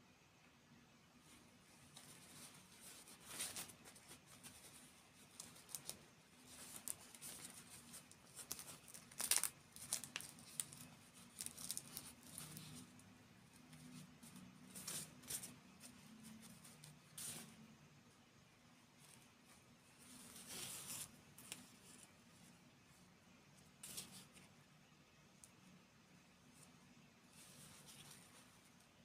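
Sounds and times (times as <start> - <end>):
faint low hum: 0.0 - 29.0
crackly crinkling and clicks: 1.2 - 17.6, 18.9 - 29.0.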